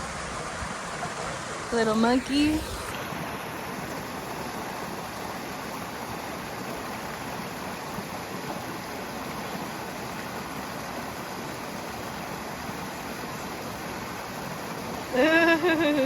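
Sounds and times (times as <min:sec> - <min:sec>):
water rushing from waterfall: 0:00.0 - 0:16.0.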